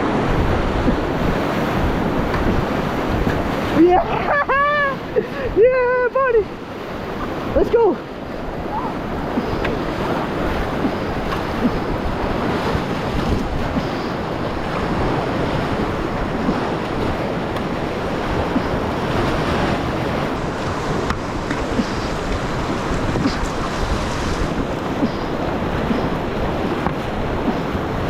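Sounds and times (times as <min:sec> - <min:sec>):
wind noise on microphone: 0:00.0 - 0:05.9, 0:08.2 - 0:28.0
river rapid rushing: 0:00.0 - 0:28.0.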